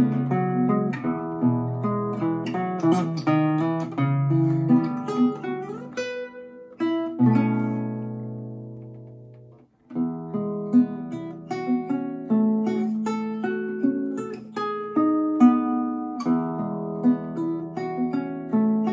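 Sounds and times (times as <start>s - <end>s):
classical guitar fingerstyle: 0.0s - 18.9s.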